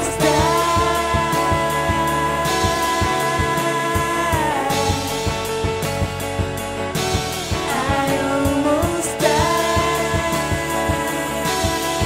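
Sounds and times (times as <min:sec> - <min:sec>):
rock band playing: 0:00.0 - 0:12.0
steady drum beat: 0:00.0 - 0:12.0.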